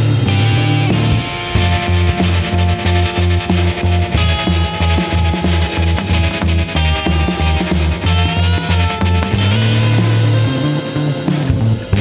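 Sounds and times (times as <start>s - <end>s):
background music with pulsing bass: 0.0s - 12.0s.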